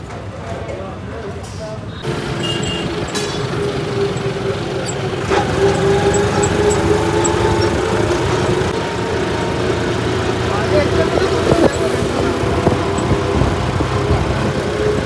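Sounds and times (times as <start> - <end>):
engine humming: 2.0 - 15.0.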